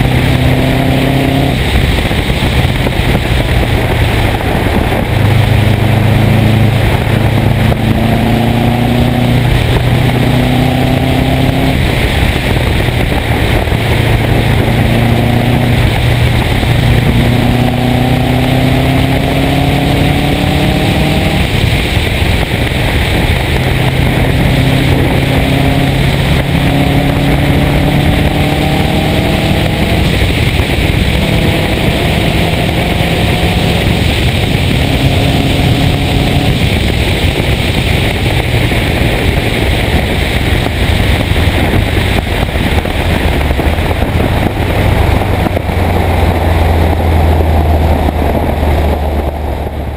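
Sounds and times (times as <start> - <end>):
car engine accelerating hard: 0.0 - 49.9
wind and road noise: 0.0 - 49.9.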